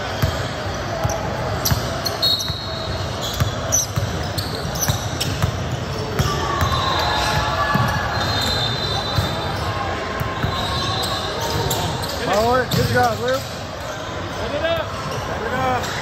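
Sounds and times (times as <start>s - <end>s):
sneakers squeaking: 0.0s - 16.0s.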